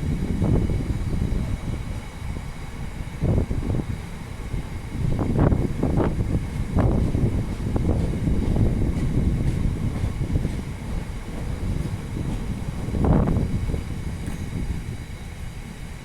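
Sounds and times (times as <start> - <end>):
diesel locomotive rumble: 0.0 - 16.0
wind buffeting microphone: 0.0 - 16.0.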